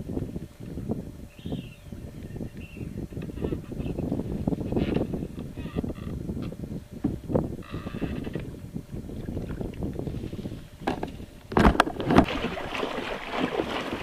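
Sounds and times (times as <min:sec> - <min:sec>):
water: 0:00.0 - 0:14.0
wind noise: 0:00.0 - 0:14.0.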